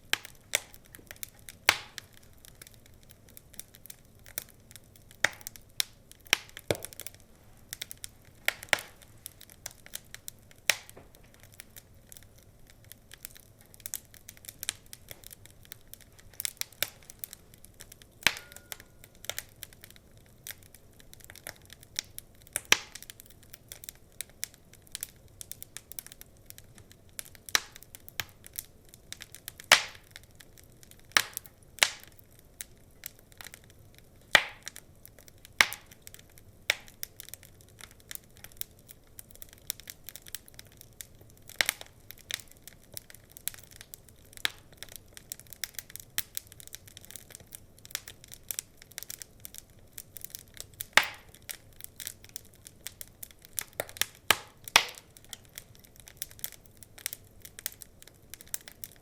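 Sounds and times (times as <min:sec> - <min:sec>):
faint low hiss: 0:00.0 - 0:59.0
wood fire crackling and popping: 0:00.0 - 0:59.0.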